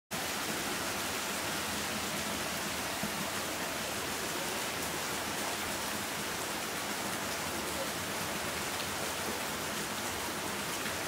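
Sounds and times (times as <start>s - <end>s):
heavy rain on leaves and water: 0.1s - 11.0s.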